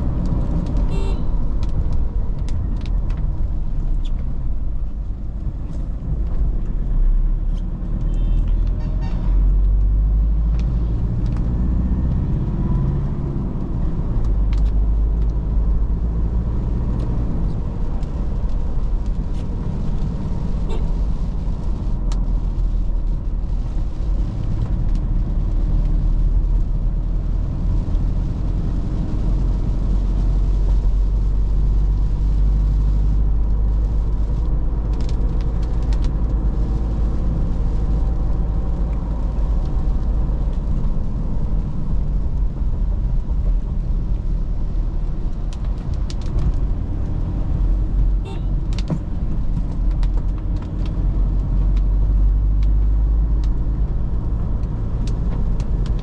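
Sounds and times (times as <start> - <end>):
diesel engine rumble: 0.0 - 56.0.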